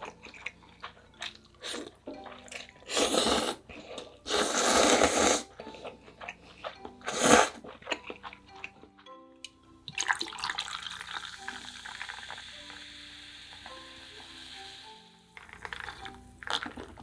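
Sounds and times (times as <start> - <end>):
slurping noodles and broth: 0.0 - 8.4, 10.6 - 17.0.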